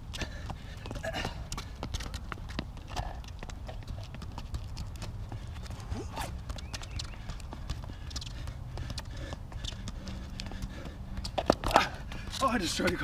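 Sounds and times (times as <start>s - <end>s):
sneaker footsteps on asphalt: 0.0s - 13.0s
soccer ball tapping: 0.1s - 5.8s, 6.4s - 13.0s.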